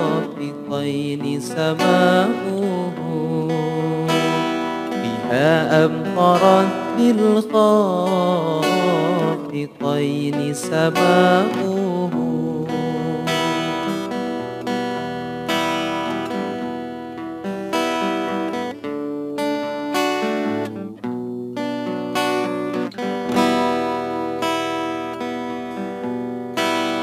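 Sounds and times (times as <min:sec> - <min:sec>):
plucked string instrument: 0:00.0 - 0:27.0.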